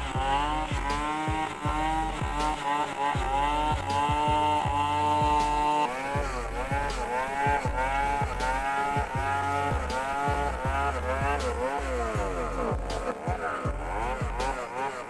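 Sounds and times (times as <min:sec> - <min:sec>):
kick drum beat: 0:00.0 - 0:02.4, 0:03.2 - 0:05.6, 0:06.2 - 0:11.4, 0:12.2 - 0:14.6
held bass line: 0:00.0 - 0:15.0
sliding pitched tone: 0:00.0 - 0:15.0.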